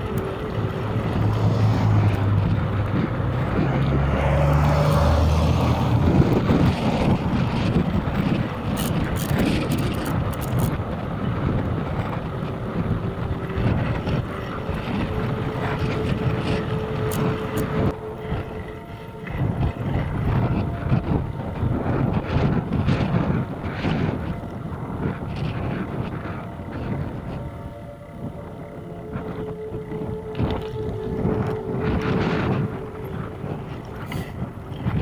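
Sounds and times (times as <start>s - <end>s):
low hum: 0.0s - 35.0s
wind buffeting microphone: 0.0s - 35.0s.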